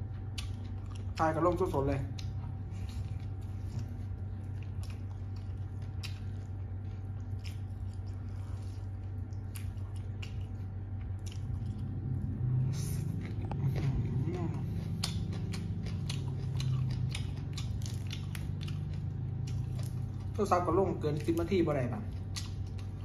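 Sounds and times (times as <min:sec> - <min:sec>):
person chewing crunchy salad: 0:00.0 - 0:20.6, 0:21.2 - 0:23.0
steady low hum: 0:00.0 - 0:23.0.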